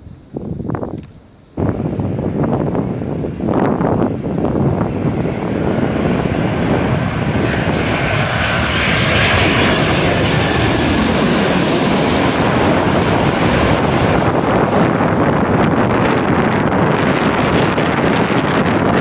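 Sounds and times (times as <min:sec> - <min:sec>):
jet engine roar overhead: 0:00.0 - 0:19.0
high engine whine: 0:01.6 - 0:19.0.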